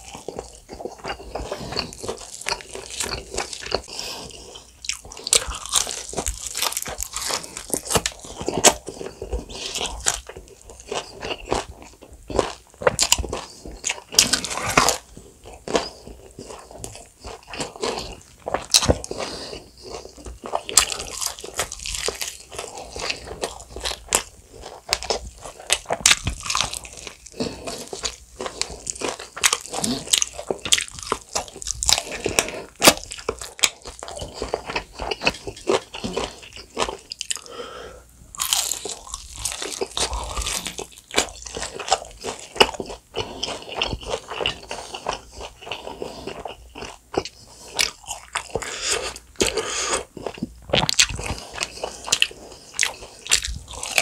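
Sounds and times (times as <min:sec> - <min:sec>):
person chewing crunchy chicken: 0:00.0 - 0:54.0.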